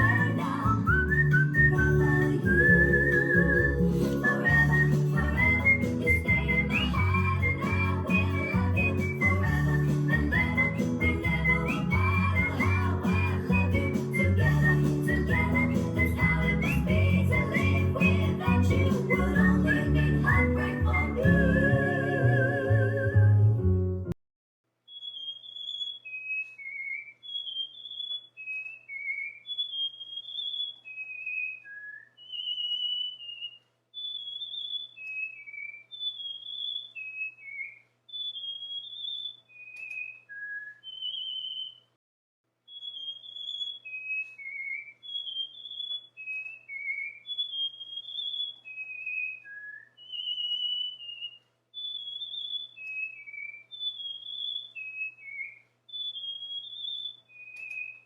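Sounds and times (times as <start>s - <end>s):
cockatiel whistling: 0.0s - 23.2s, 24.9s - 41.9s, 42.7s - 58.0s.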